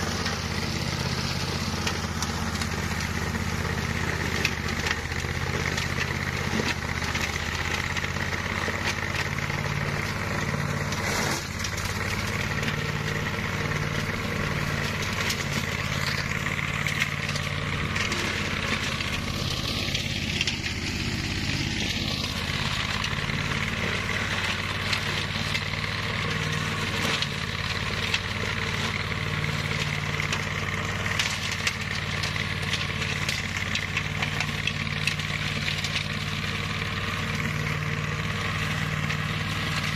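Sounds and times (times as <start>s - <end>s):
flails crackling cutting grass: 0.0s - 39.9s
mower engine running: 0.0s - 39.9s.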